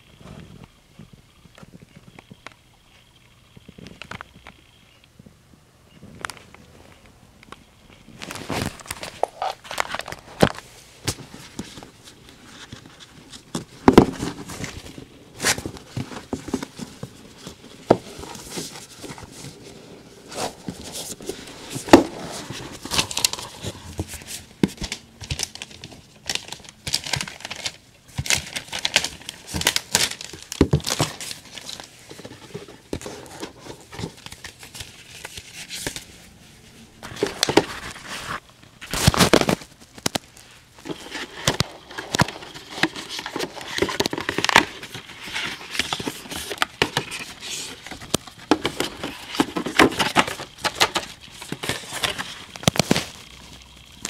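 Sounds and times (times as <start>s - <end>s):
packaging crinkling and tearing: 8.2s - 19.5s, 20.3s - 36.1s, 37.0s - 54.0s.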